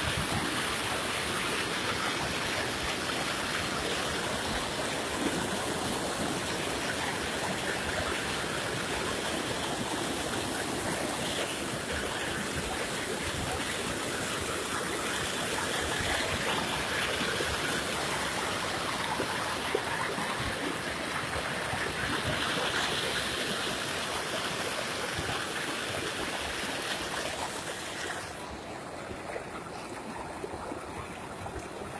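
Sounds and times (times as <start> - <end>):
floodwater rushing: 0.0 - 31.9.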